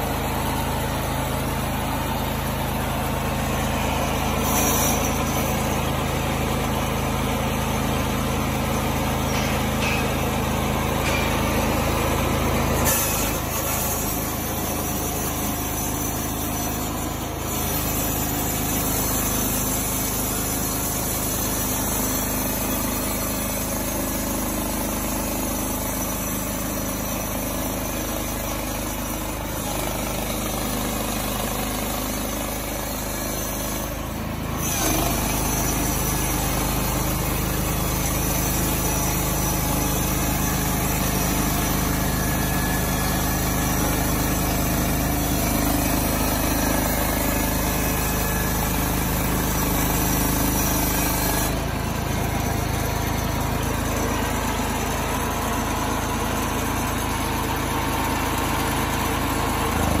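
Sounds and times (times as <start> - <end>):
sawmill engine running: 0.0 - 60.0
band blade sawing board: 3.5 - 6.2, 8.4 - 55.1.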